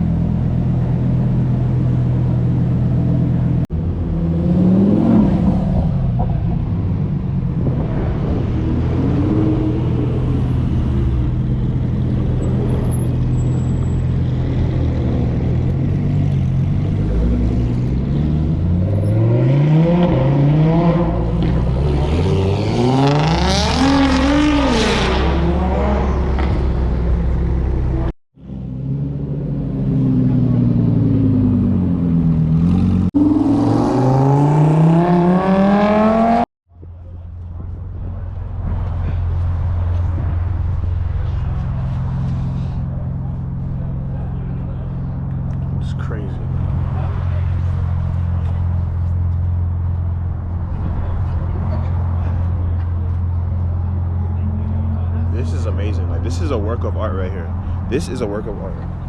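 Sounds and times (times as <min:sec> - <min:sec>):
car engines idling and revving: 0:00.0 - 0:59.0.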